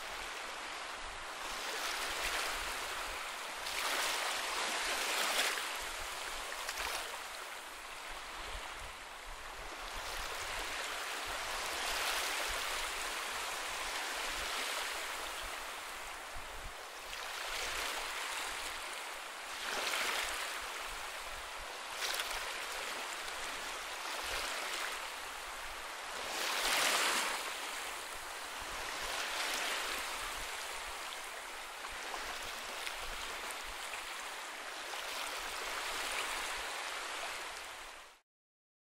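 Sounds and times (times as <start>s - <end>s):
waves washing onto beach: 0.0s - 38.2s.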